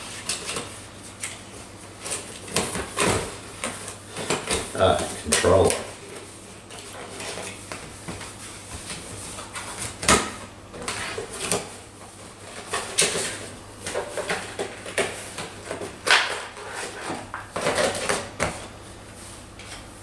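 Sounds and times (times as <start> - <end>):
cardboard rustling and scraping: 0.0 - 19.9.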